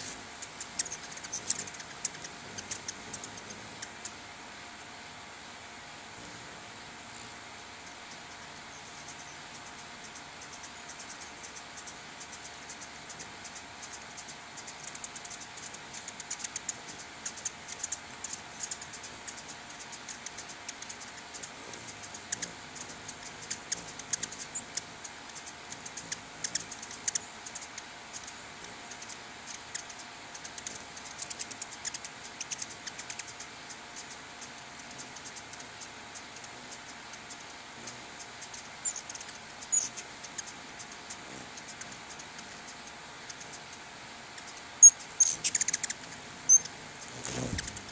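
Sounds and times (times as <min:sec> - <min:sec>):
hummingbirds chipping: 0:00.0 - 0:47.9
steady hiss: 0:00.0 - 0:47.9.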